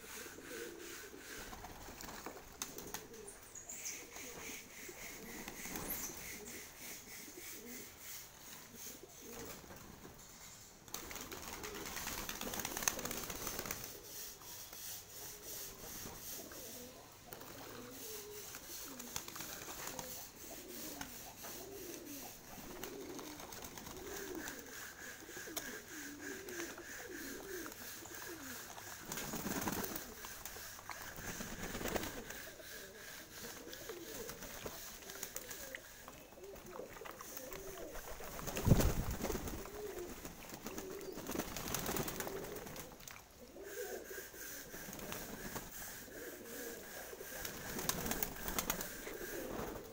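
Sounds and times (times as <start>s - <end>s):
pigeons cooing: 0.0s - 9.9s, 10.9s - 49.9s.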